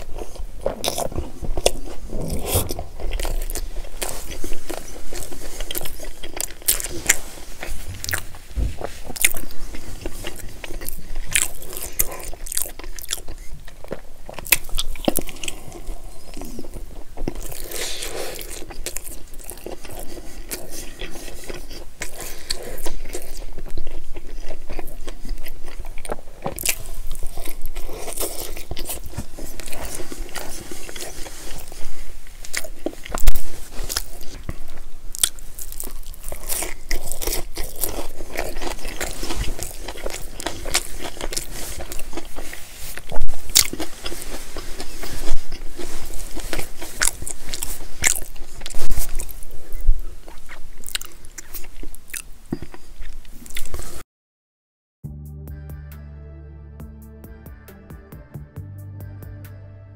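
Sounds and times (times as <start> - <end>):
biting and chewing: 0.0 - 54.0
mouth clicks and food crunches: 0.0 - 54.0.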